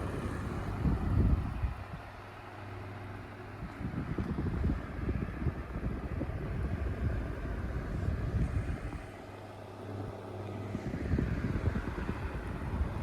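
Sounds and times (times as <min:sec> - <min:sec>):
fan wind buffeting microphone: 0:00.0 - 0:13.0
low motor hum: 0:00.0 - 0:13.0.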